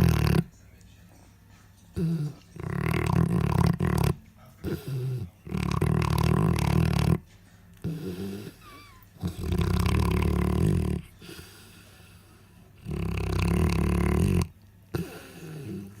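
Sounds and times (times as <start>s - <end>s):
dog snoring loudly: 0.0s - 0.5s, 2.0s - 7.2s, 7.8s - 16.0s
dog breathing quietly: 2.0s - 16.0s.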